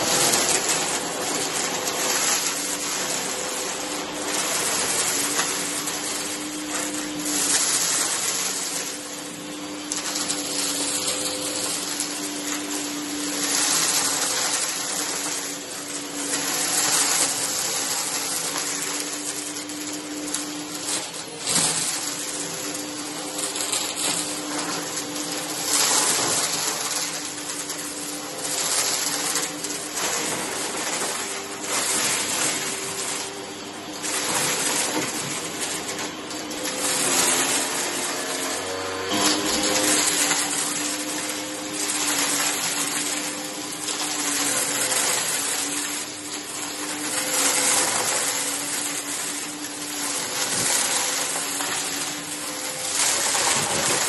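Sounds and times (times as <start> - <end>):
debris rattling in vacuum: 0.0 - 54.0
vacuum cleaner running: 0.0 - 54.0.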